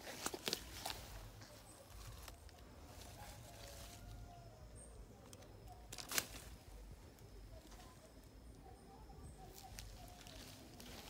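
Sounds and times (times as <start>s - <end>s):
rustling of leaves and twigs: 0.0s - 11.0s.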